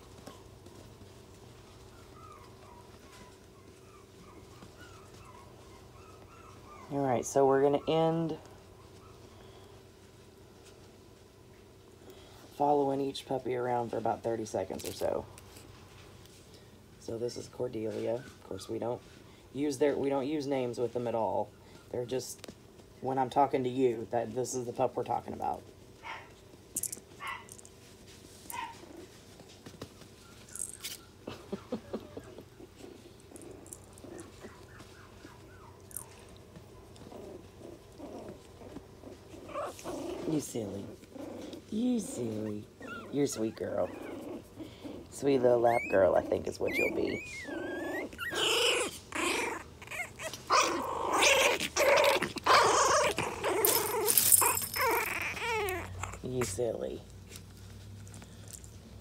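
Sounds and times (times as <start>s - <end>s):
puppy rustling and scuffling: 0.0s - 59.0s.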